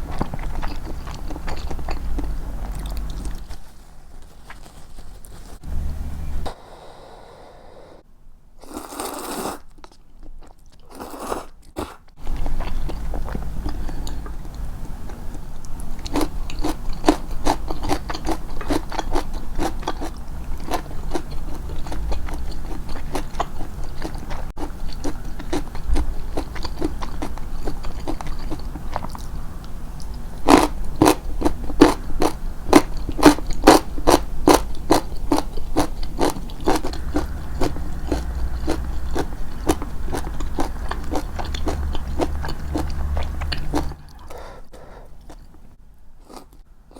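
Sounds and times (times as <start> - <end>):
chewing crunchy food: 0.0 - 5.6, 8.6 - 46.6
low steady hum: 0.0 - 8.6, 12.1 - 46.9.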